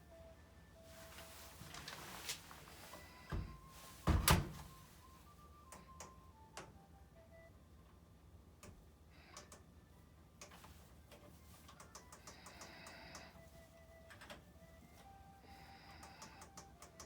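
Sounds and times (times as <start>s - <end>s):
telephone hold music: 0.0s - 8.0s, 9.8s - 17.0s.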